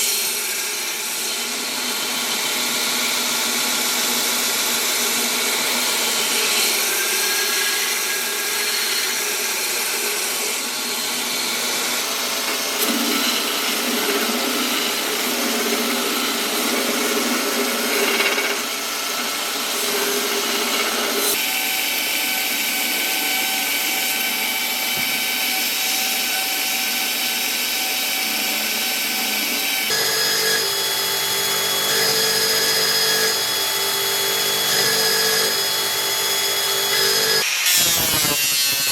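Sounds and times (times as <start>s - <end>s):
electric power tool grinding: 0.0s - 21.8s, 27.8s - 38.9s.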